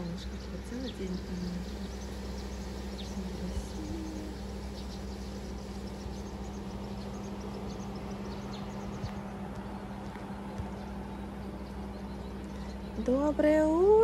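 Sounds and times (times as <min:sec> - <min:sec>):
faint high chirping: 0:00.0 - 0:14.0
steady low hum: 0:00.0 - 0:14.0.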